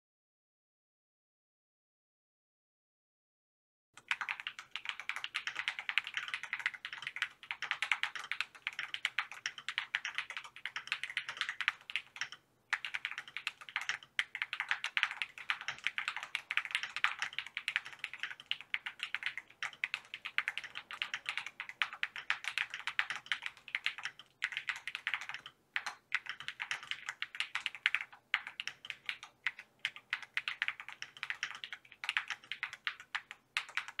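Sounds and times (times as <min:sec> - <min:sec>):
fast typing on mechanical keyboard: 0:04.0 - 0:34.0.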